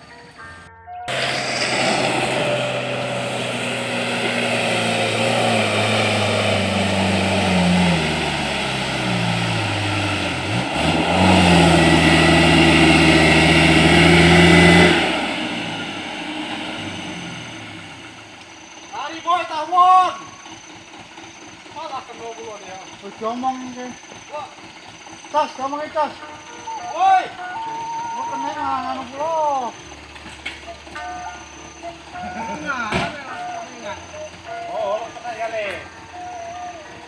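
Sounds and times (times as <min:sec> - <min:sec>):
truck engine revving: 0:01.0 - 0:37.0.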